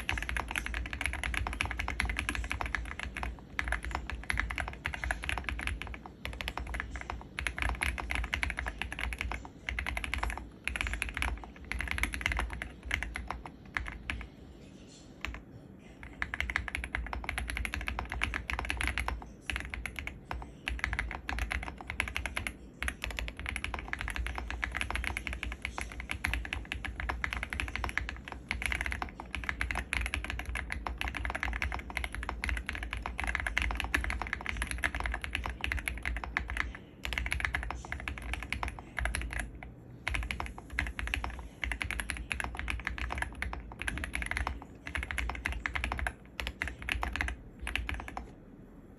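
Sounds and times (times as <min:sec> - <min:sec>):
fast typing on mechanical keyboard: 0:00.0 - 0:14.4, 0:15.2 - 0:48.4.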